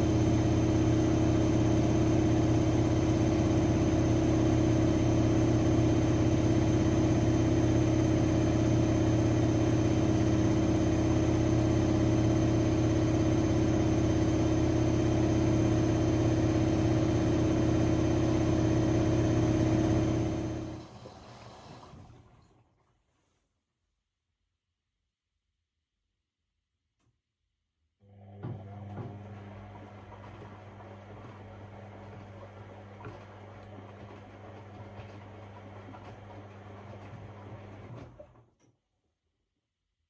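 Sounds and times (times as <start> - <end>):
washing machine motor hum: 0.0 - 22.8, 28.0 - 38.4.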